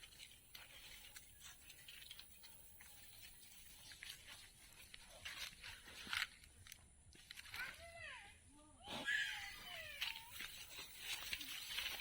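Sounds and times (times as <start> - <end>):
faint ticks and rustles: 0.0 - 8.2, 9.7 - 12.0.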